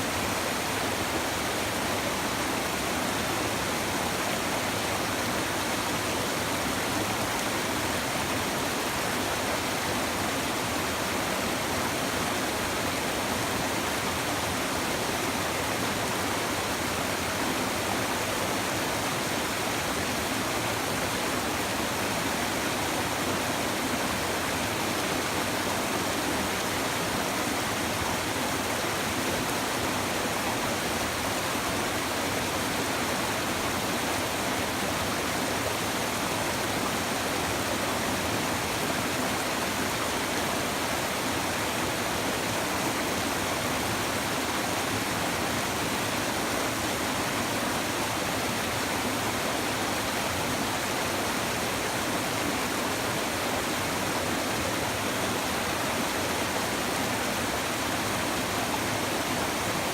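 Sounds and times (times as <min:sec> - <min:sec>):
river babbling over stones: 0:00.0 - 0:59.9.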